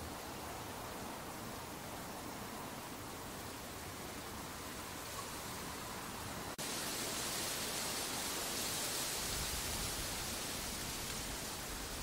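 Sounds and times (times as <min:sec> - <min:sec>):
wind hissing: 0:00.0 - 0:12.0.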